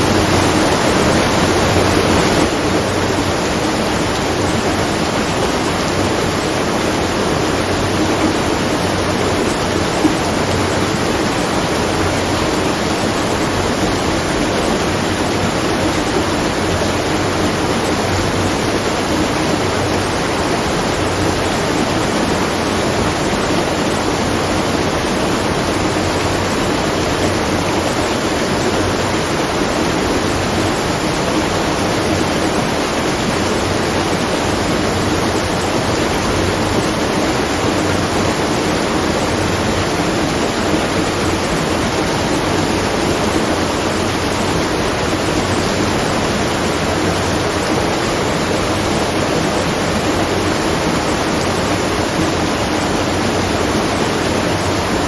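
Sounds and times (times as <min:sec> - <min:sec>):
water rushing and splashing: 0:00.0 - 0:55.0.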